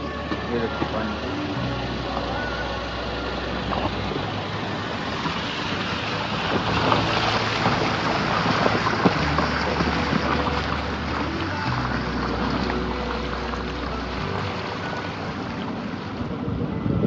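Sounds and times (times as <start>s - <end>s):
car engine hum: 0.0s - 17.0s
tyres splashing through water: 0.0s - 17.0s.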